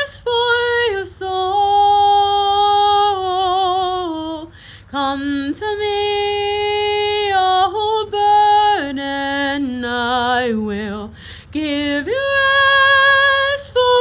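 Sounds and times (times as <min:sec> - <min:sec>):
woman singing unaccompanied: 0:00.0 - 0:14.0.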